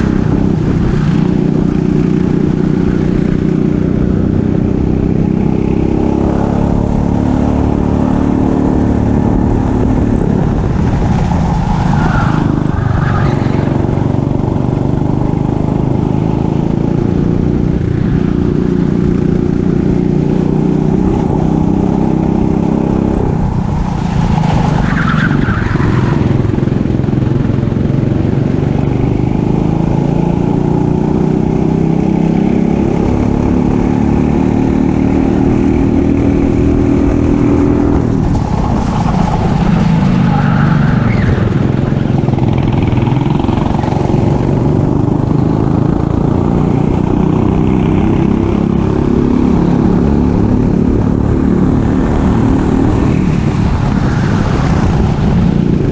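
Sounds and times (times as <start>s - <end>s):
kart engine at high revs: 0.0s - 55.9s.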